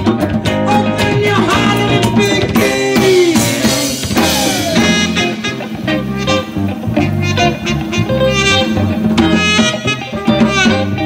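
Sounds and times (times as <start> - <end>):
djembe drumming: 0.0 - 11.0
drum kit beat: 0.0 - 11.0
electric guitar: 0.0 - 11.0.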